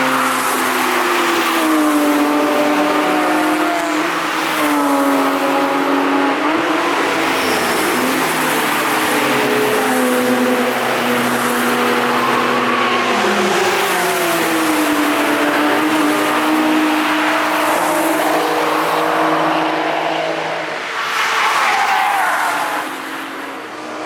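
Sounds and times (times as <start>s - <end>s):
race cars driving past: 0.0s - 24.0s.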